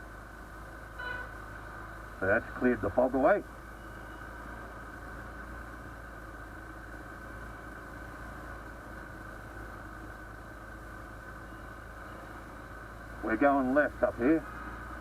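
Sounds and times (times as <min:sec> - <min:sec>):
motorcycle engine hum: 0:00.0 - 0:15.0
road noise: 0:00.0 - 0:15.0.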